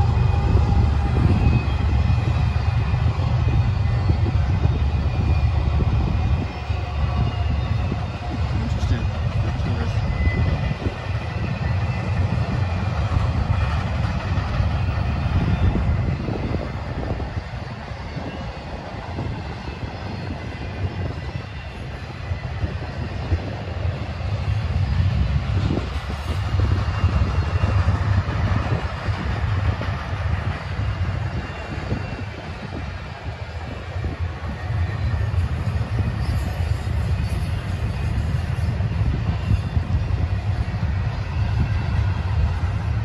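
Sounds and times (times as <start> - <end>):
freight train wheels rumbling: 0.0 - 43.0.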